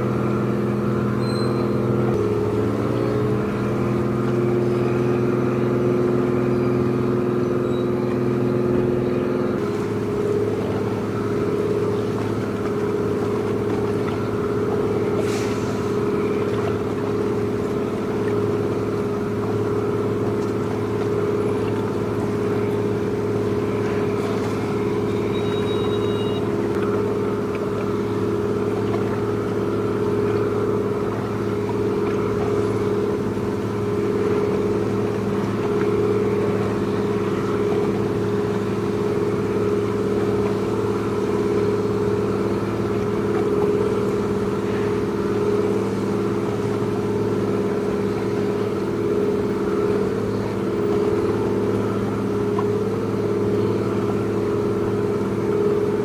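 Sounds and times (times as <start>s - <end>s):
ship engine humming: 0.0s - 56.0s.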